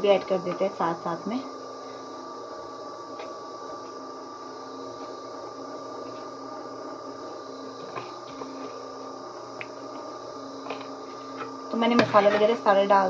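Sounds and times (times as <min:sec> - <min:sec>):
hum and hiss: 0:00.0 - 0:13.0.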